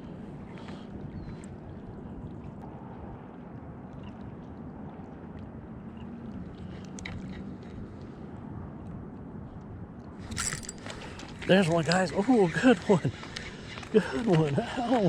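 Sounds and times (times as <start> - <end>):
distant traffic: 0.0 - 15.0
faint engine hum: 0.0 - 15.0
wind: 0.0 - 15.0.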